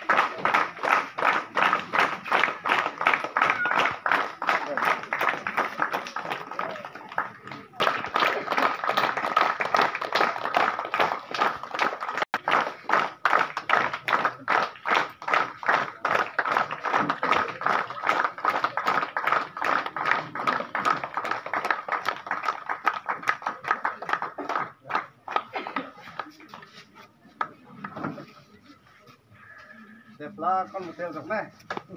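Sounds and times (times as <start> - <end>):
group of people clapping: 0.0 - 28.4.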